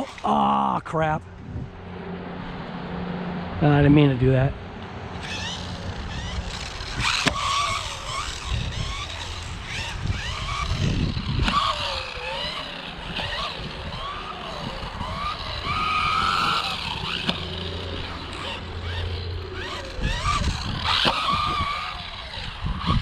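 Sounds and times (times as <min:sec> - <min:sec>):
electric toy car motor whine: 0:00.0 - 0:00.7, 0:05.2 - 0:23.0
tyre and ground noise: 0:00.0 - 0:23.0.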